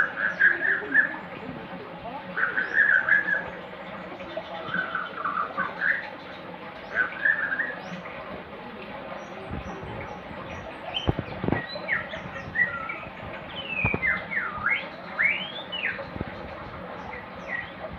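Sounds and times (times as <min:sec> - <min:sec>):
songbird singing whistled notes: 0:00.0 - 0:01.2, 0:02.4 - 0:08.1, 0:09.2 - 0:16.1, 0:17.0 - 0:17.8.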